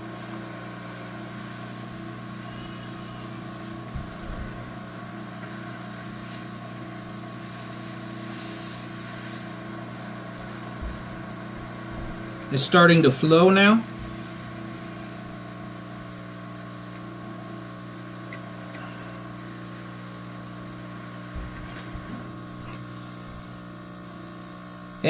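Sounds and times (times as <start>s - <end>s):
hot air blower humming: 0.0s - 25.0s.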